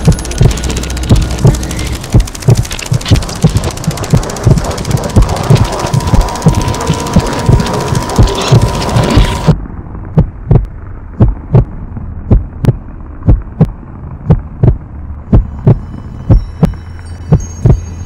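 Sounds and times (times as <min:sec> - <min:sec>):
noisy wash: 0:00.0 - 0:15.8
heartbeat-like double thumps: 0:00.0 - 0:17.8
steady low hum: 0:00.0 - 0:18.0.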